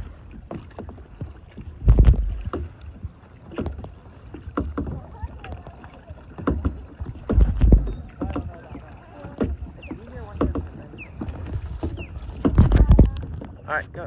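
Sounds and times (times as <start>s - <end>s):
paddle strokes splashing in water: 0.0s - 14.0s.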